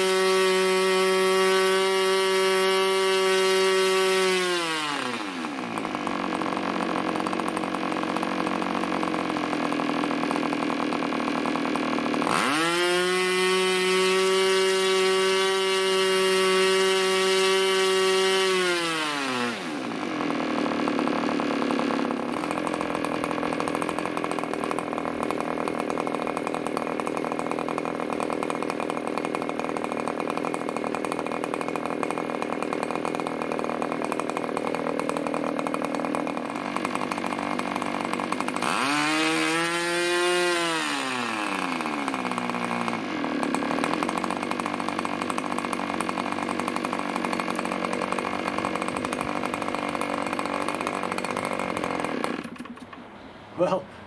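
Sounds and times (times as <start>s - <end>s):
model engine high-pitched buzz: 0.0s - 53.8s.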